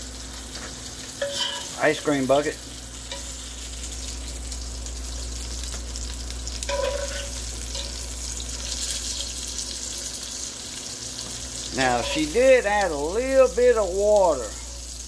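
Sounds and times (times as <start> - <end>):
meat frying in oil: 0.0 - 15.0.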